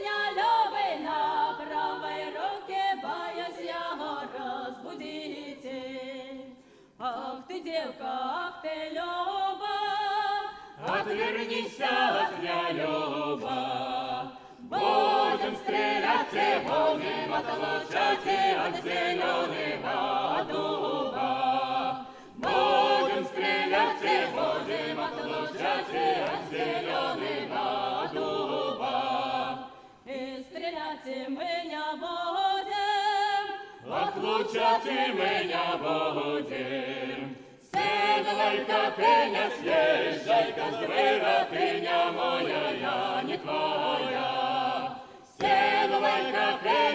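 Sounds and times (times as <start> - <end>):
mixed choir singing a cappella: 0.0 - 46.9.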